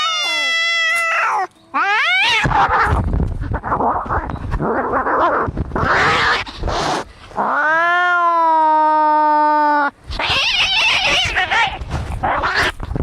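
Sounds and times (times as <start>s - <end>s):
cats hissing and scuffling: 0.0s - 8.0s, 10.1s - 13.0s
cats yowling: 0.0s - 12.8s.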